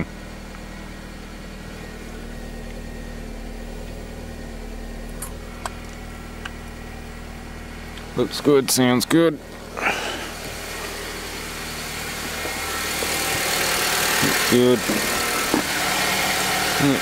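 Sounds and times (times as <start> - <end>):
air conditioning running: 0.0 - 17.0
car engine idling: 0.0 - 17.0.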